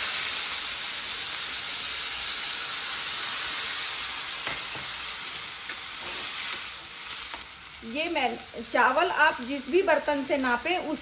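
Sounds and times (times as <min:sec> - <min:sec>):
water sizzling in hot fat: 0:00.0 - 0:11.0.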